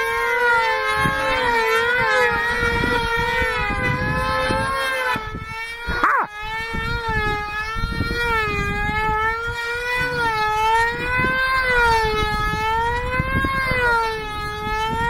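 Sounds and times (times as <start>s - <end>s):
model engine high-pitched whine: 0.0s - 15.0s.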